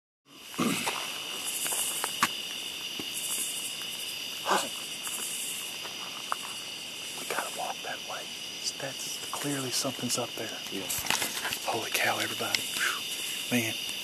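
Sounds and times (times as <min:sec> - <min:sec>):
night insects chorus: 0:00.3 - 0:14.0.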